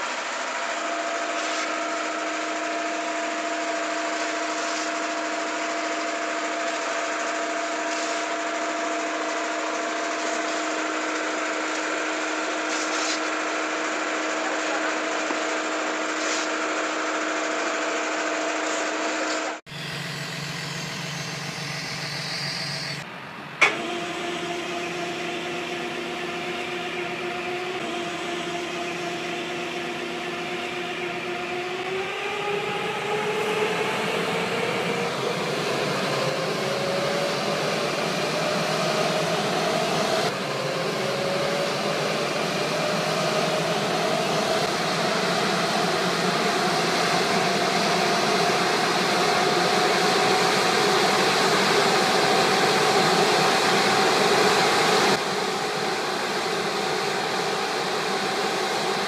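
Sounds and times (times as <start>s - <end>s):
sprayer machine hum and whine: 0.0s - 59.0s.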